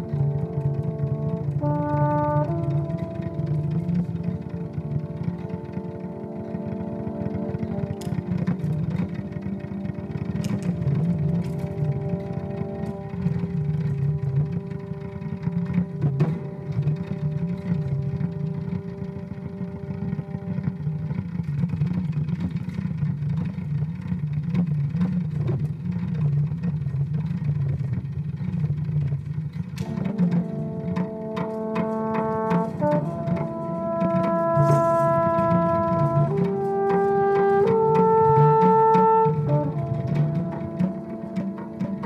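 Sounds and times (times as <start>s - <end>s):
french horn long held notes: 0.0s - 22.8s, 29.7s - 42.0s
low pulsing looped drone: 0.0s - 42.0s.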